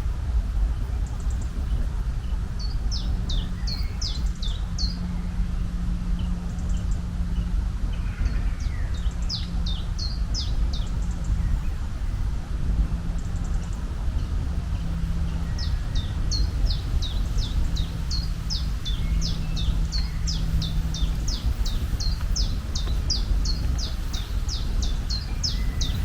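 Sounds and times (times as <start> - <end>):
steady low rumble: 0.0 - 26.0
songbirds chirping: 0.1 - 26.0.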